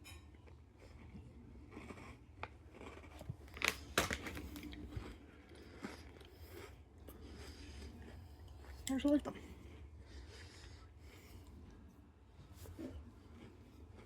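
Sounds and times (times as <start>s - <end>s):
cookie crunching: 0.0s - 14.0s.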